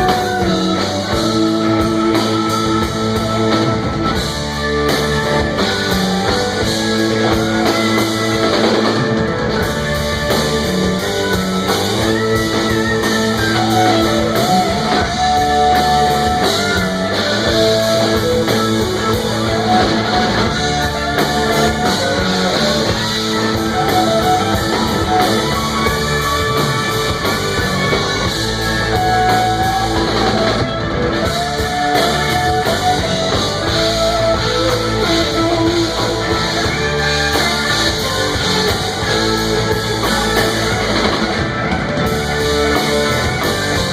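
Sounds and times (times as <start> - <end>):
rock band playing: 0.0 - 43.9.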